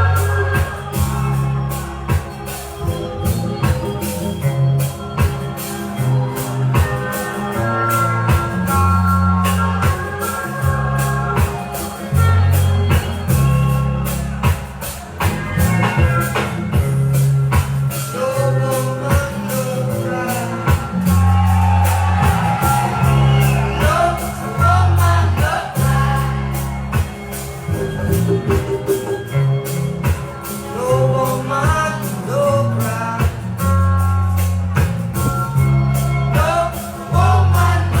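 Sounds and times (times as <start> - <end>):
person singing: 0.0 - 38.0
reggae music with organ: 0.0 - 38.0.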